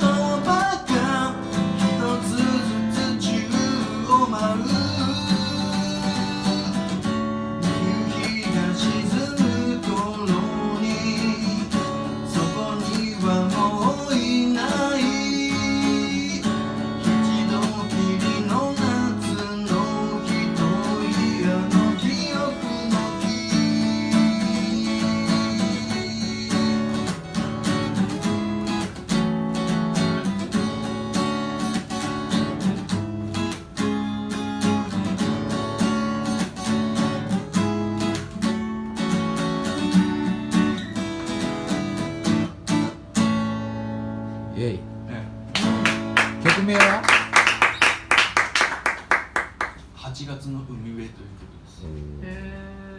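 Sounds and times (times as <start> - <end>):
strummed acoustic guitar: 0.0 - 50.0.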